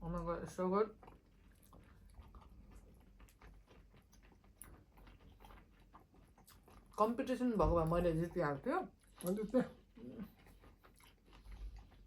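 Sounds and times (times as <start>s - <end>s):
faint chewing with mouth clicks: 0.0s - 12.0s.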